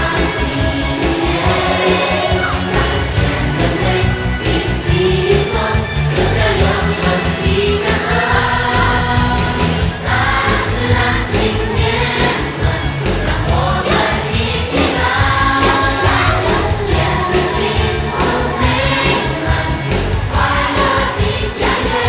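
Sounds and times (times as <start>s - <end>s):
group of voices singing: 0.0s - 22.0s
steady music beat: 0.0s - 22.0s.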